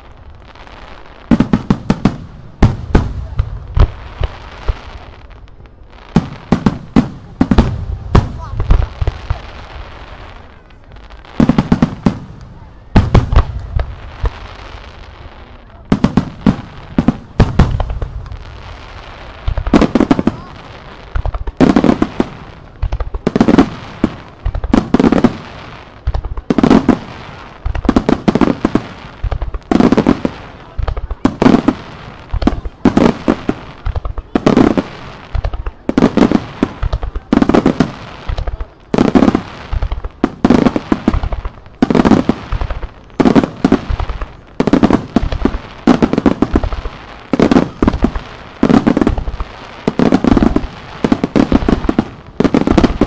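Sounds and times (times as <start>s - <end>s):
fireworks booming: 0.0s - 53.0s
fireworks crackling: 0.0s - 53.0s.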